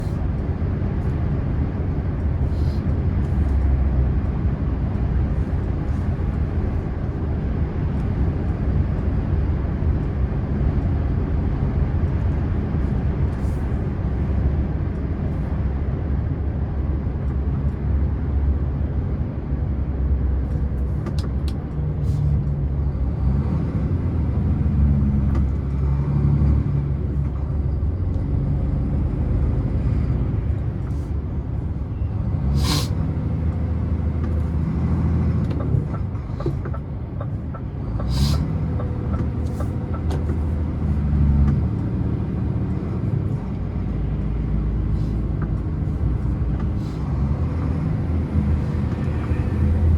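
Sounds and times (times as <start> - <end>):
truck engine and road noise: 0.0 - 49.9.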